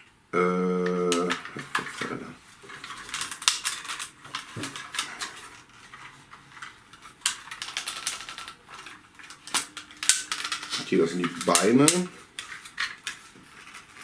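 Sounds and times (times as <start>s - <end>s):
plastic toy parts clicking: 0.8s - 2.1s, 2.8s - 14.0s.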